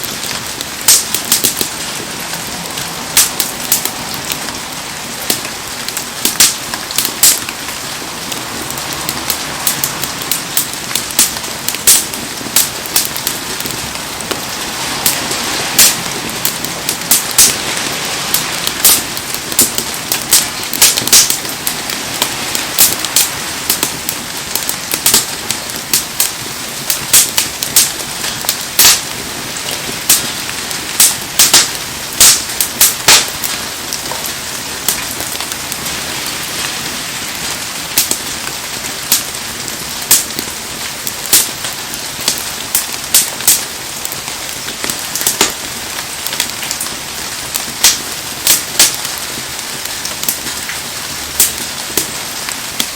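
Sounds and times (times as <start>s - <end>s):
bonfire crackling: 0.0s - 52.9s
heavy rain: 0.0s - 52.9s.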